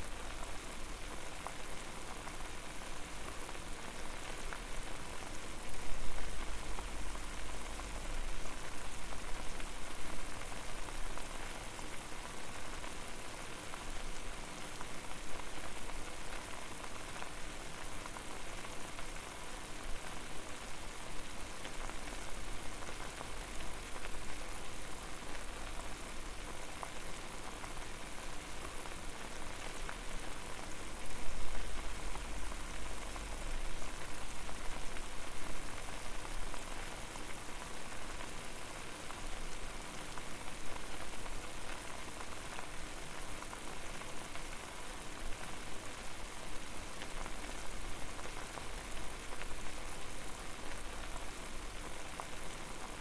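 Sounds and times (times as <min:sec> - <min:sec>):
water boiling in a pot: 0:00.0 - 0:53.0.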